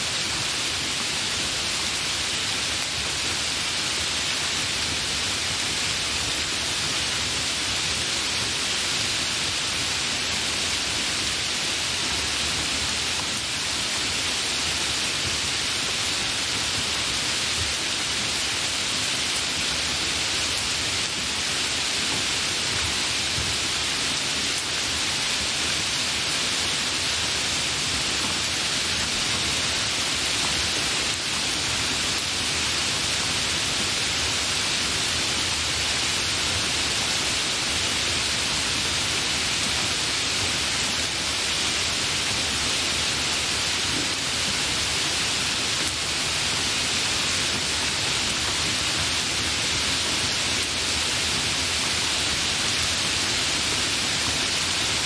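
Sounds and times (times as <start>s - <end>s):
hard rain falling: 0.0s - 55.0s.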